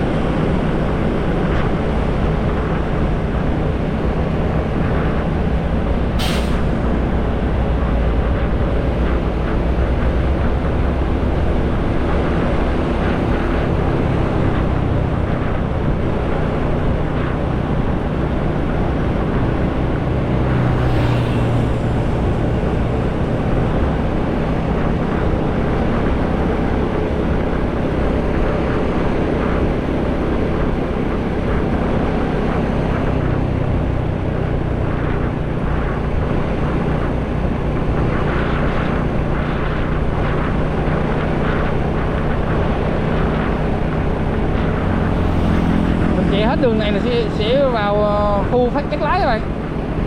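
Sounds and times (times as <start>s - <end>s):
road noise: 0.0s - 50.0s
wind noise: 0.0s - 50.0s.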